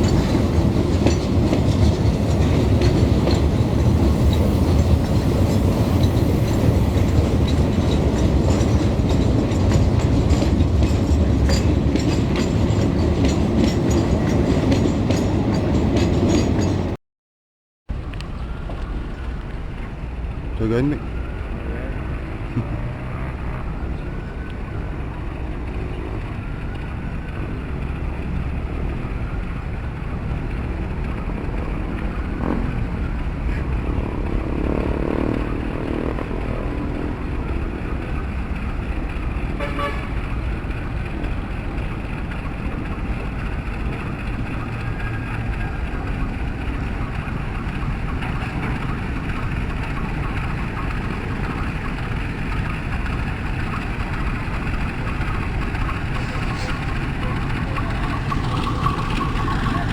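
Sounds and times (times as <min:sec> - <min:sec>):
passenger train rumbling: 0:00.0 - 0:17.0, 0:17.9 - 0:59.9.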